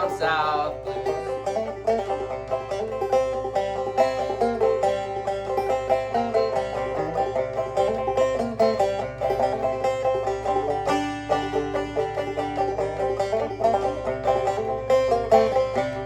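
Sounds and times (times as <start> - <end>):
banjo playing blues: 0.0 - 16.0.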